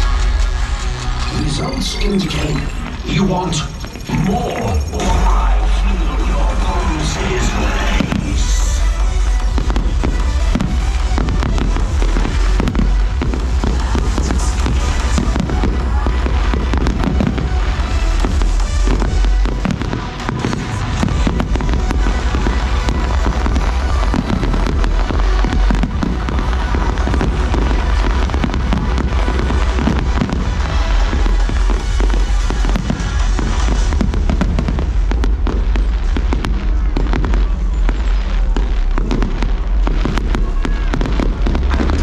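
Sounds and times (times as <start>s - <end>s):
fireworks bangs and crackles: 0.0s - 42.0s
loud music: 0.0s - 42.0s
low fireworks booms: 2.7s - 42.0s.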